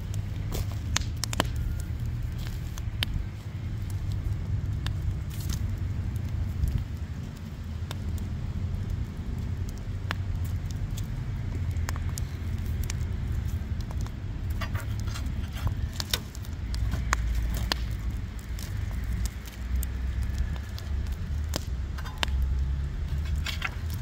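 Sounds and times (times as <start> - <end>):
low rumble: 0.0 - 24.0
wood fire crackling: 0.0 - 24.0.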